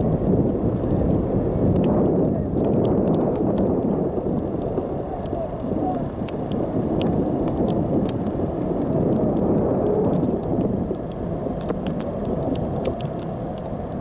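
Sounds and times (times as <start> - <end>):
raindrops ticking on camera: 0.0 - 14.0
wind noise on microphone: 0.0 - 14.0.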